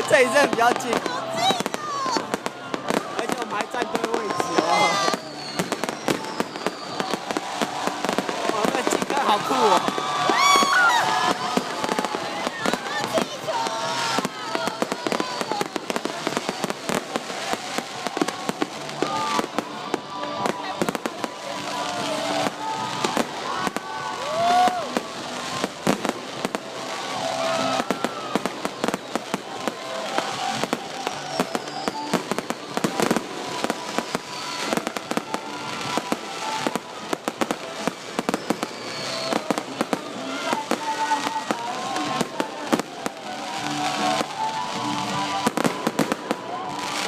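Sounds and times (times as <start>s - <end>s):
firework bangs and crackles: 0.0s - 47.0s
whistling rockets: 0.3s - 41.4s.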